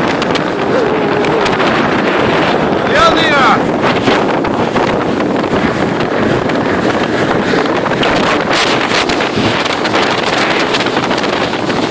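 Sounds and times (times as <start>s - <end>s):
motorboat running: 0.0s - 11.9s
wind buffeting microphone: 0.0s - 11.9s.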